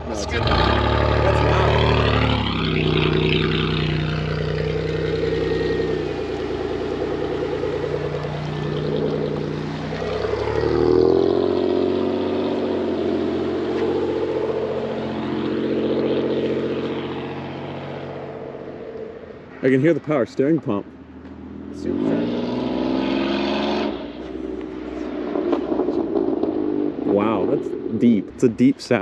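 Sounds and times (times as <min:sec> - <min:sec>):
loud car exhaust rumble: 0:00.0 - 0:29.0.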